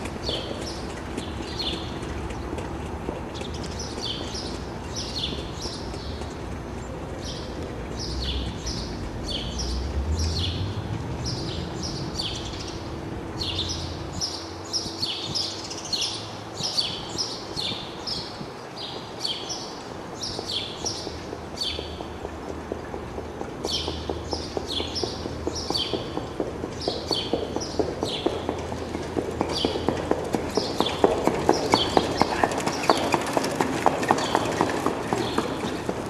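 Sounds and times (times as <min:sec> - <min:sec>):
trotting horse hoofbeats: 0:00.0 - 0:12.7, 0:13.4 - 0:36.0
small birds chirping: 0:00.0 - 0:12.8, 0:13.4 - 0:35.8.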